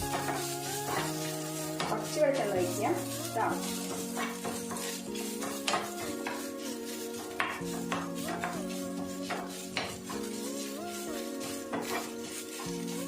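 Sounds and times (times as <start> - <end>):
coconut sizzling in oil: 0.0 - 13.0
slow background music: 0.0 - 13.0.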